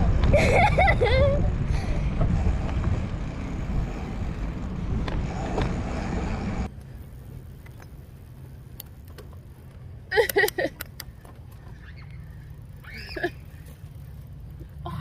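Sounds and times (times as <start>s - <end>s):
road rumble while cycling: 0.0s - 15.0s
street background: 0.0s - 15.0s
wind: 0.0s - 15.0s.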